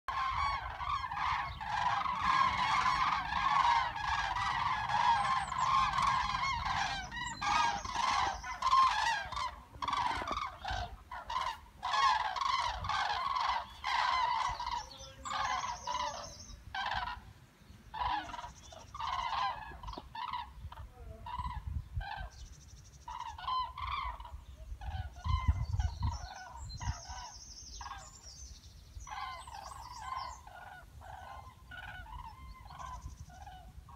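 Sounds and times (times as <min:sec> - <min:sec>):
cranes bugling calls: 0:00.1 - 0:22.4, 0:23.1 - 0:28.2, 0:29.0 - 0:33.9.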